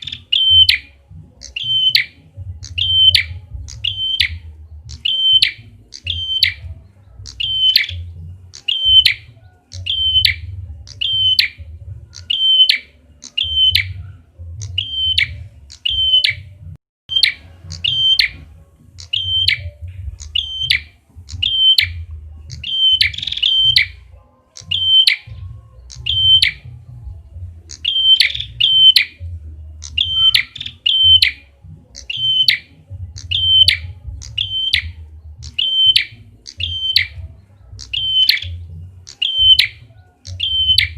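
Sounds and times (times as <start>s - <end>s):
bird high chirp: 0.0s - 40.9s.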